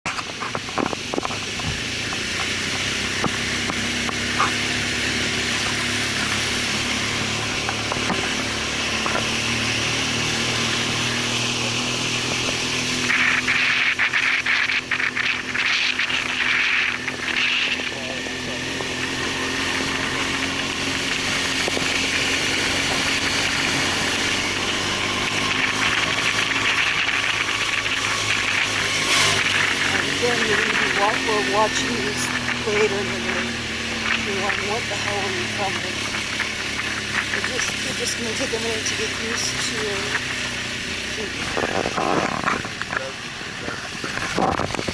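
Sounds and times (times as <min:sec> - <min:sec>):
motorbike engine hum: 0:00.0 - 0:44.9
wind and road noise: 0:00.0 - 0:44.9.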